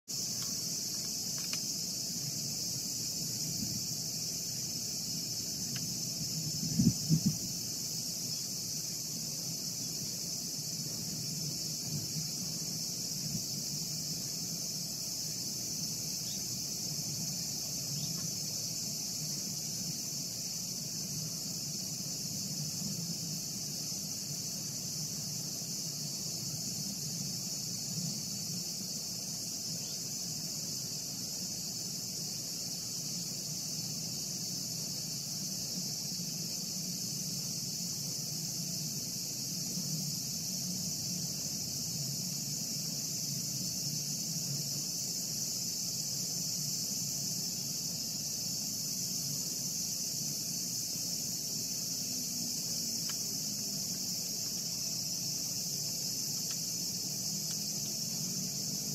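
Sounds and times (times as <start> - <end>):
insects shrilling: 0.1 - 58.9.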